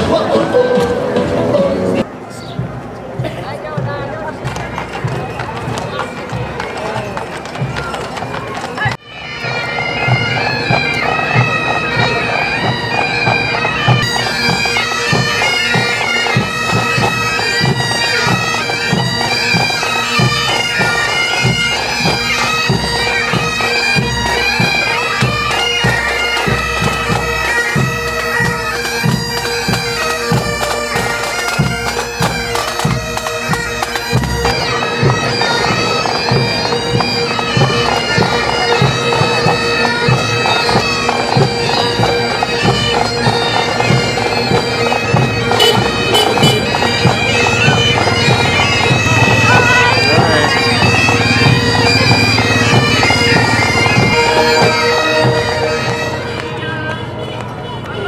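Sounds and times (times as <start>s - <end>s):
marching drums beat: 2.6s - 57.2s
bagpipes playing a melody: 8.7s - 58.0s.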